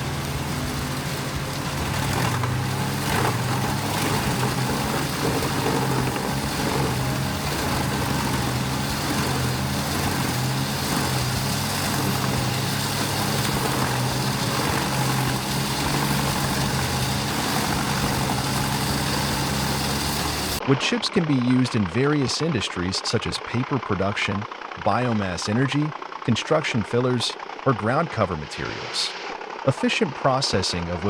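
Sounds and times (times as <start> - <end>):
wood chipper engine running: 0.0 - 31.0.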